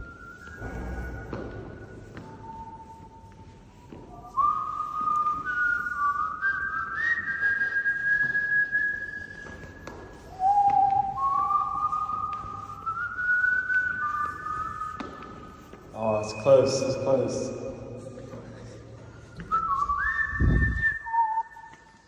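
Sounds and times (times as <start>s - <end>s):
whistling long held notes: 0.0s - 17.3s, 19.1s - 22.0s.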